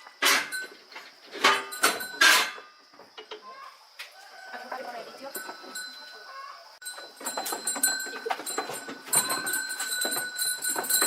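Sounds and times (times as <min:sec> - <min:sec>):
chickens clucking: 0:00.0 - 0:10.9.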